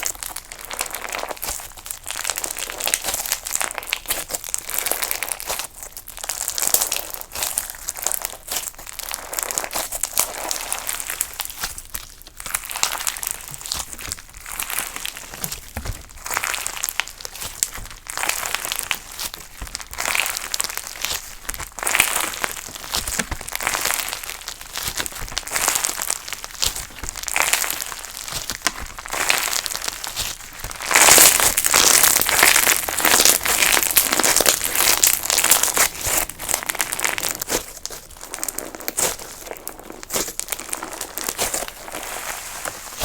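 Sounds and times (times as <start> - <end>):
slime crackling and popping: 0.0 - 43.0.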